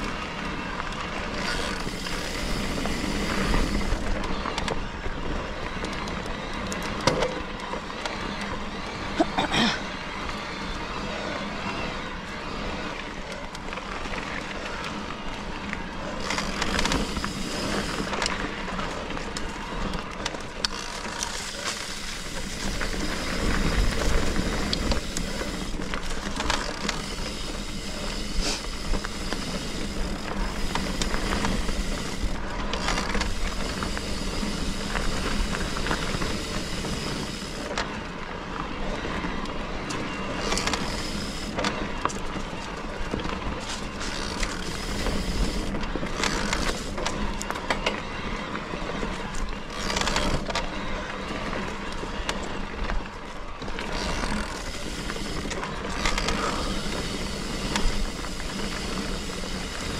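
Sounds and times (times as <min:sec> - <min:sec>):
bike tyres rolling and rattling: 0:00.0 - 0:59.9.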